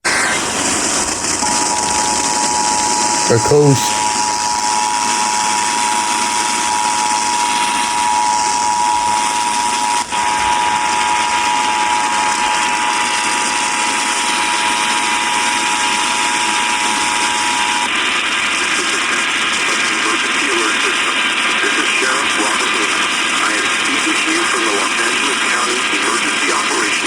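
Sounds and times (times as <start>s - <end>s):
radio static hiss: 0.1s - 27.0s.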